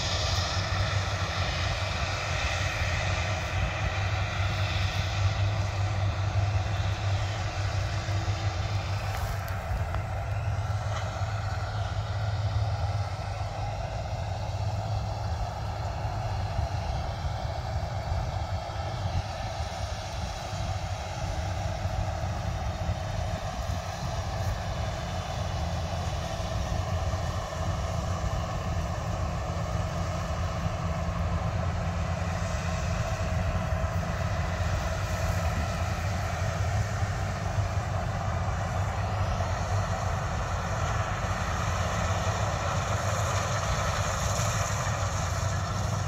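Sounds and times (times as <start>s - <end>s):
harvester engine hum: 0.0s - 46.0s.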